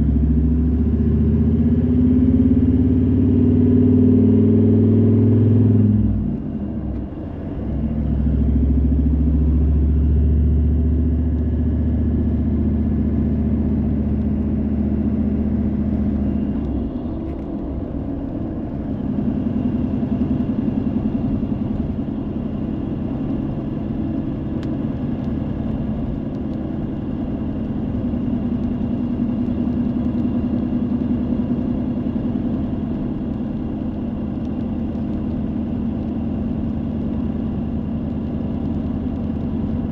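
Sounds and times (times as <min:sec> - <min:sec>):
car engine hum: 0:00.0 - 0:39.9
road rumble: 0:00.0 - 0:39.9.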